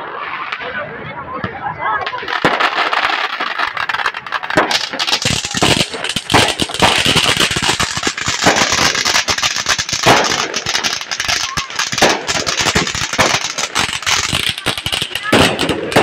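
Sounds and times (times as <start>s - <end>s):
fountain fireworks hissing and crackling: 0.0s - 16.0s
firework snaps: 2.0s - 16.0s.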